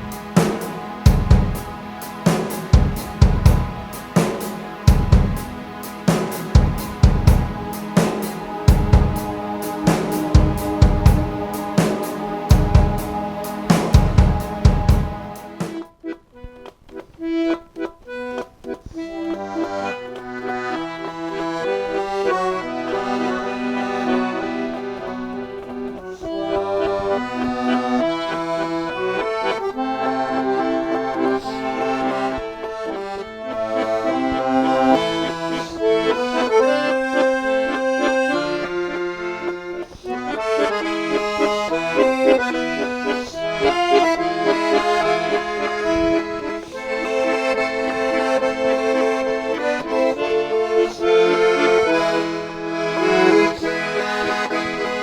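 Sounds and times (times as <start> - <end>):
accordion playing chords: 0.0 - 55.0.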